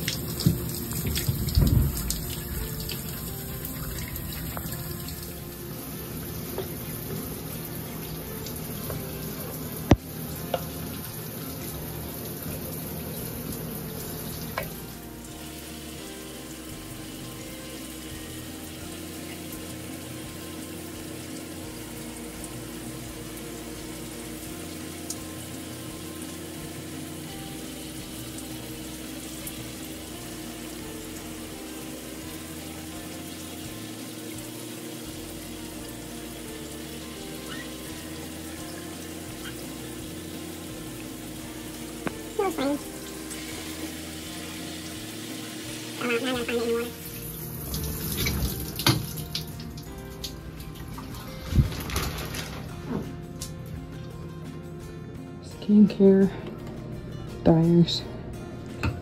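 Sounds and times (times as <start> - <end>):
shower water running: 0.0 - 54.6.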